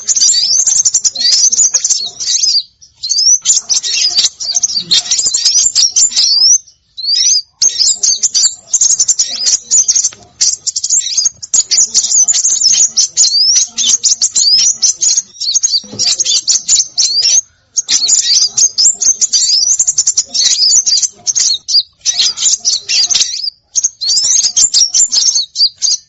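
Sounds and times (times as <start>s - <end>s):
songbirds chirping and twittering: 0.0s - 26.0s.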